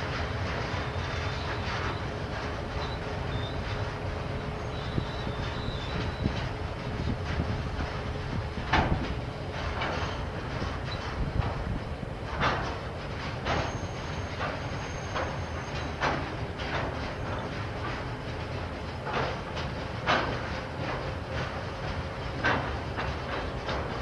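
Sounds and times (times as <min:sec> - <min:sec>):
train rumble: 0:00.0 - 0:24.0
train wheels clacking over rail joints: 0:00.0 - 0:24.0.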